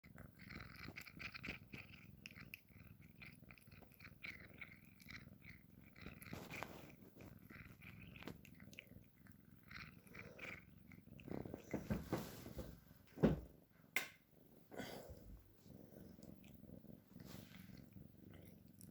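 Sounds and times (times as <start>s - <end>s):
cat purring: 0.0s - 18.9s.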